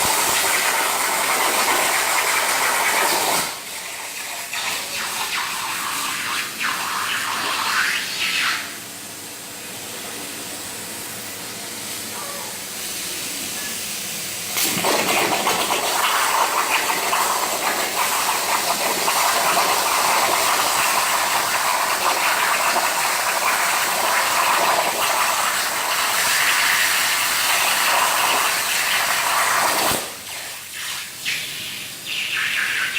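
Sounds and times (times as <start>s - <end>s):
plasma arc loud hiss: 0.0s - 8.6s, 12.8s - 32.9s.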